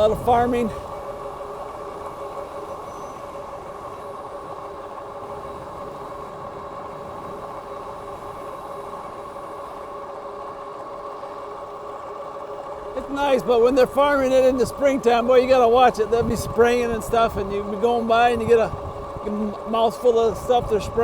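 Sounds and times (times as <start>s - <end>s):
electric bike motor whine: 0.0s - 21.0s
road and wind noise: 0.0s - 21.0s.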